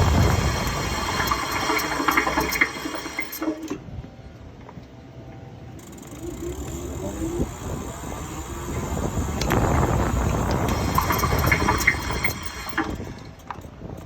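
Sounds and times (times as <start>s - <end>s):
vehicle rolling: 0.0s - 3.9s, 5.7s - 14.0s.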